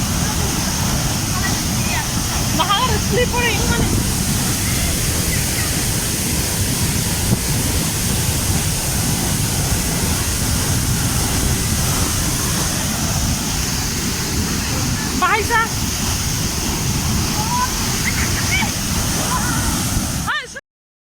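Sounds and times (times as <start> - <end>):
wind buffeting microphone: 0.0 - 20.3
waterfall roaring: 0.0 - 20.6.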